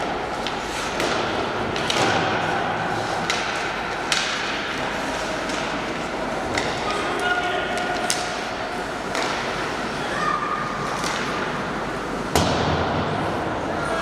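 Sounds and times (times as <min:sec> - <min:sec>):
hockey sticks clacking on puck: 0:00.0 - 0:12.7
rink background noise: 0:00.0 - 0:14.0.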